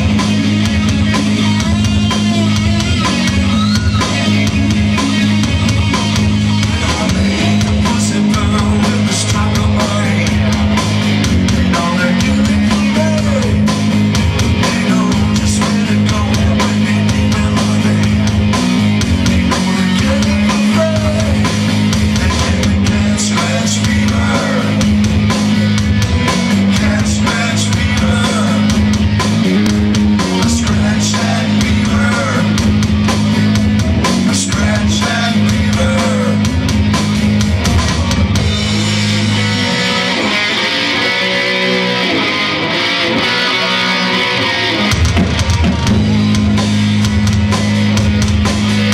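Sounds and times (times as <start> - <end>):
bass guitar: 0.0 - 48.9
drum kit beat: 0.0 - 48.9
electric guitar: 0.0 - 48.9.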